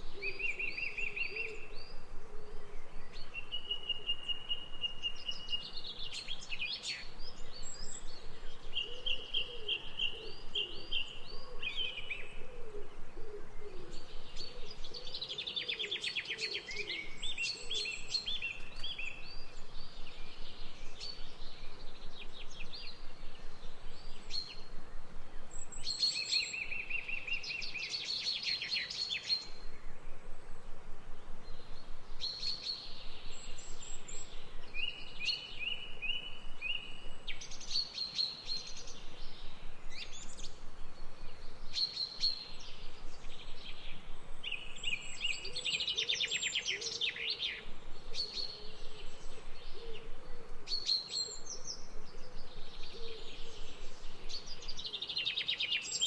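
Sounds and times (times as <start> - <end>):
faint outdoor background hiss: 0.0 - 56.0
songbirds singing: 0.0 - 56.0.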